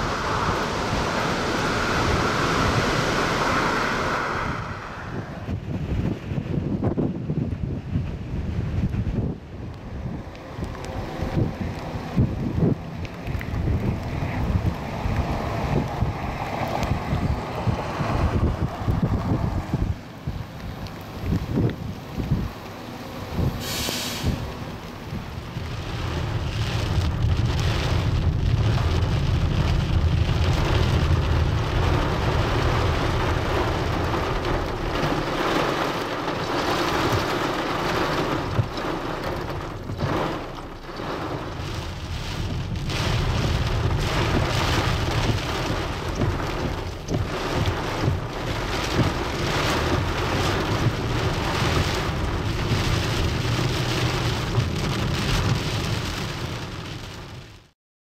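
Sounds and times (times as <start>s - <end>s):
deep thunder rumble: 0.0s - 57.5s
heavy rain on a car: 0.0s - 57.7s.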